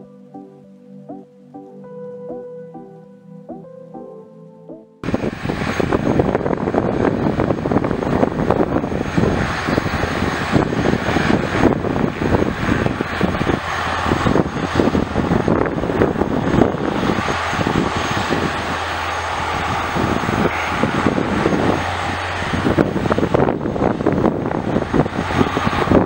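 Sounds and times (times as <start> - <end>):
helicopter hovering: 5.0 - 26.0.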